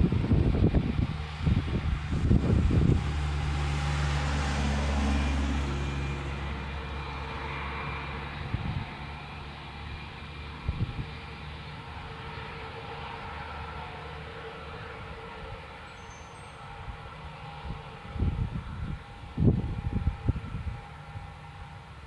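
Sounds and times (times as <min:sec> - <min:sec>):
wind buffeting microphone: 0:00.0 - 0:13.5, 0:16.7 - 0:22.0
jet engines humming: 0:00.0 - 0:22.0.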